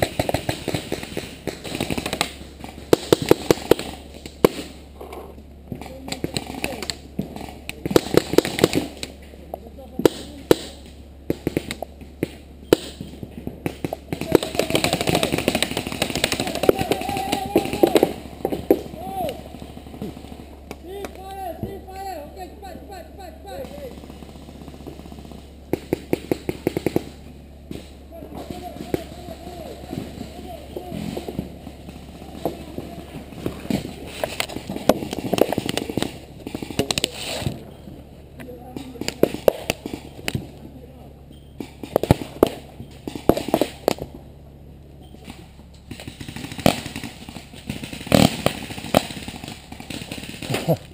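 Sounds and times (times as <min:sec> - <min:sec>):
paintball markers firing: 0:00.0 - 0:09.3, 0:10.0 - 0:21.8, 0:23.6 - 0:37.8, 0:38.4 - 0:40.7, 0:41.3 - 0:44.2, 0:45.1 - 0:50.9
distant voices calling out: 0:00.0 - 0:50.9.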